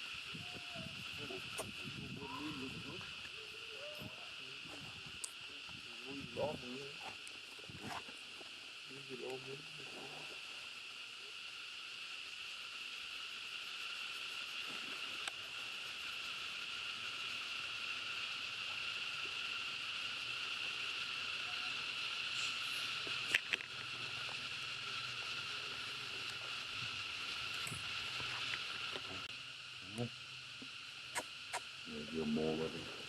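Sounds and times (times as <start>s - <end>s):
insects droning high-pitched: 0.0s - 33.0s.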